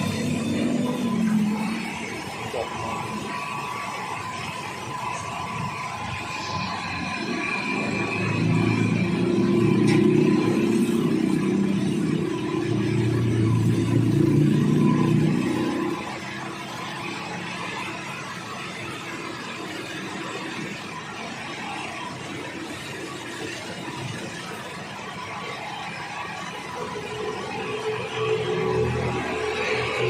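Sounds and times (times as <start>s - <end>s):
concrete mixer engine running: 0.0s - 30.0s.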